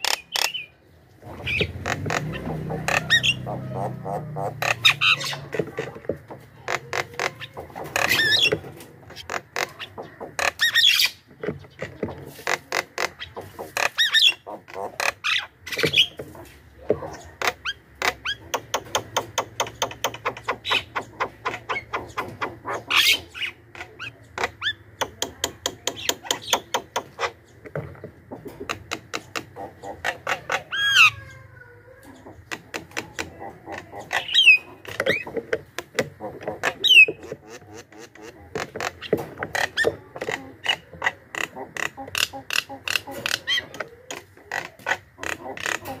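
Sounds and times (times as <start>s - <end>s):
bird chattering song: 0.0s - 46.0s.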